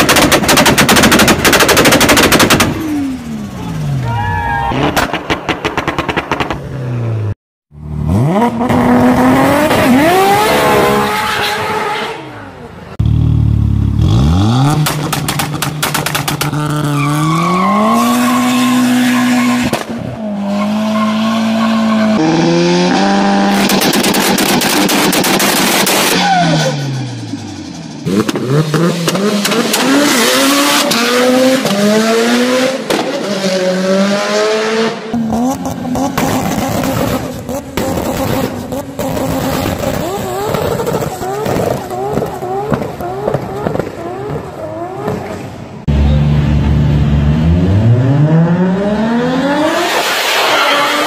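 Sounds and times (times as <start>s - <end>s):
cars revving and accelerating: 4.7s - 51.0s.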